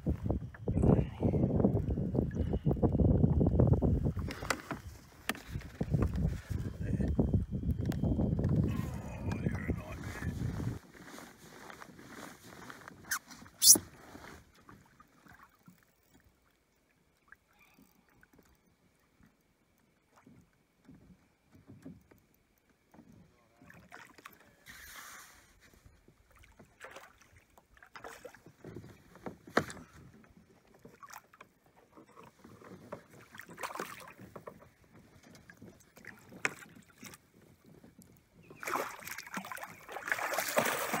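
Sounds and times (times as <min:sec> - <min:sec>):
water lapping against kayak: 0:00.0 - 0:41.0.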